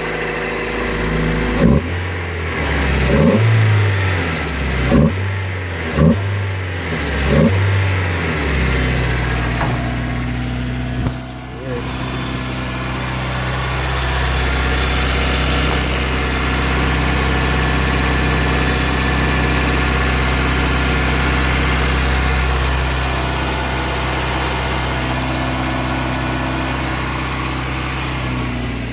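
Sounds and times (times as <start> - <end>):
car engine idling: 0.0 - 28.9
engine rattle: 0.0 - 28.9.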